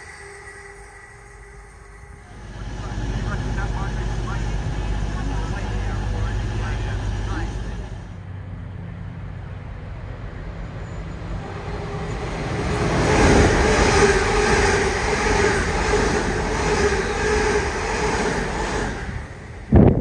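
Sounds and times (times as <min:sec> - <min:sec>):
train whine: 0:00.0 - 0:20.0
train wheels rumbling on rails: 0:02.2 - 0:20.0.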